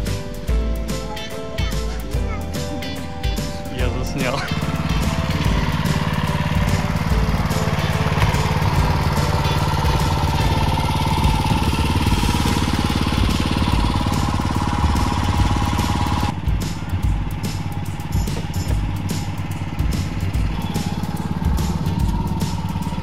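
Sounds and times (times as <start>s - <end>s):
small petrol engine running: 2.2s - 23.0s.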